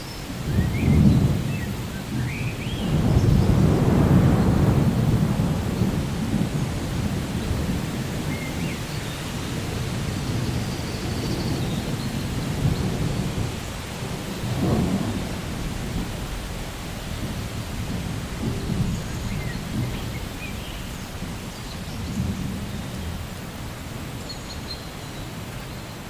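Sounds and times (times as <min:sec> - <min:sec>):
steady rain falling: 0:00.0 - 0:26.0
thunder rumbling low: 0:00.4 - 0:24.2.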